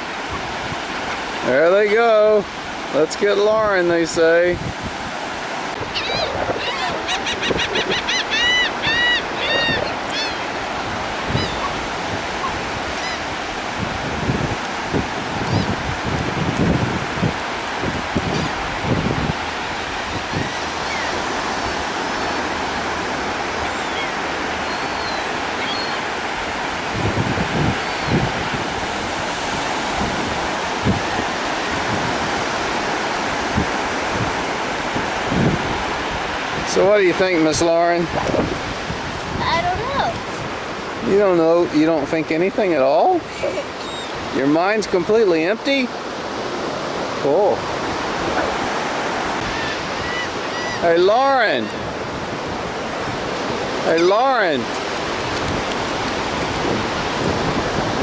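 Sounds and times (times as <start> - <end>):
surf rushing: 0.0 - 58.0
seagulls calling: 0.1 - 2.1, 5.7 - 15.8, 19.5 - 26.9, 27.6 - 33.4, 36.3 - 57.5
wind buffeting microphone: 2.5 - 50.8, 51.4 - 58.0.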